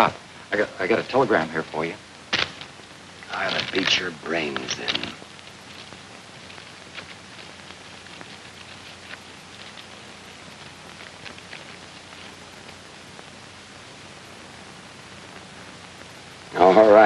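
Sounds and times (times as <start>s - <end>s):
faint clicks and crackles: 0.0s - 17.0s
film soundtrack hiss: 0.0s - 17.0s.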